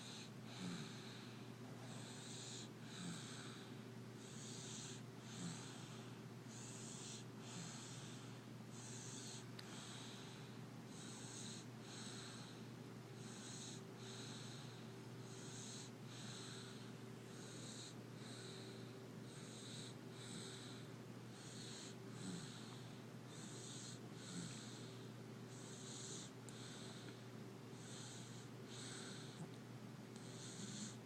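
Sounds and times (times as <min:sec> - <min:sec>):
baby snoring: 0:00.0 - 0:01.2, 0:01.8 - 0:12.6, 0:13.2 - 0:18.7, 0:19.3 - 0:24.9, 0:25.5 - 0:27.1, 0:27.8 - 0:29.4, 0:30.2 - 0:31.0
faint steady hum: 0:00.0 - 0:31.0.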